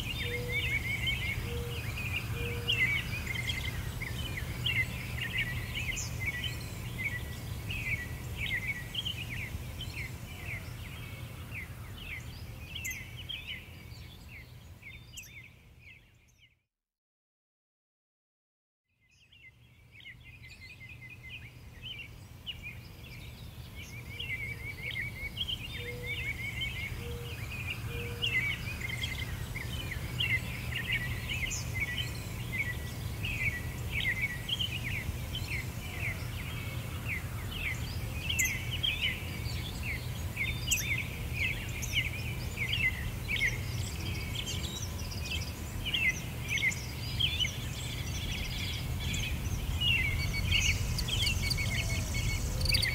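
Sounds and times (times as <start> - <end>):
small birds chirping: 0.0 - 16.6, 19.0 - 52.9.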